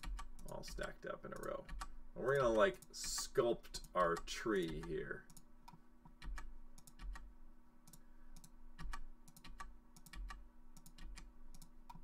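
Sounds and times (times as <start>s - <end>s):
computer mouse clicks: 0.0s - 12.0s.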